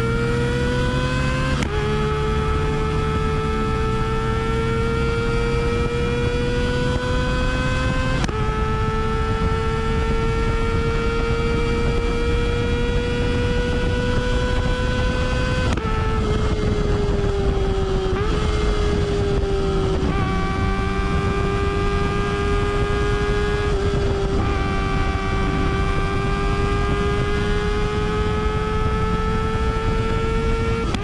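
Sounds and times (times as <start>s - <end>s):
motorcycle engine revving high: 0.0s - 31.0s.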